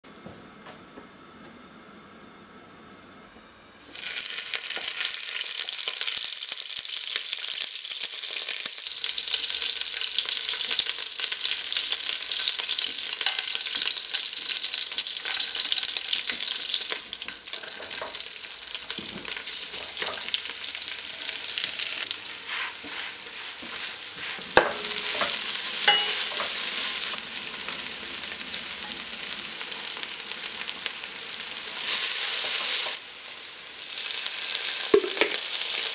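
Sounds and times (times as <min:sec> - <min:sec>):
spices sizzling in a pan: 0:03.8 - 0:35.9.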